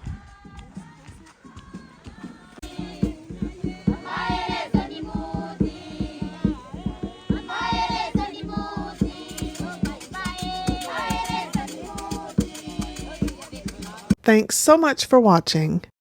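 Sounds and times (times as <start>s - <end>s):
group singing: 0.0s - 14.2s
percussive beat: 0.0s - 14.2s.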